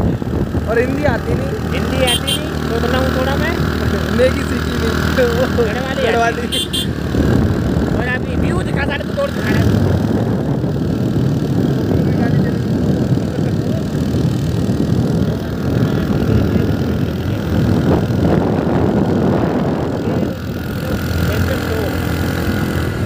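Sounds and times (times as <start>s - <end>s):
motor vehicle running: 0.0s - 23.0s
wind noise on microphone: 0.0s - 23.0s.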